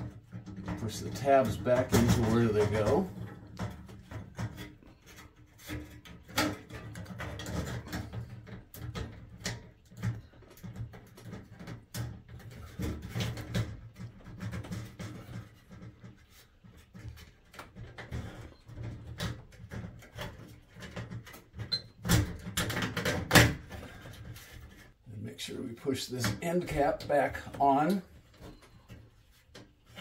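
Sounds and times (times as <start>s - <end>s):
plastic parts clicking and rubbing: 0.0s - 25.0s.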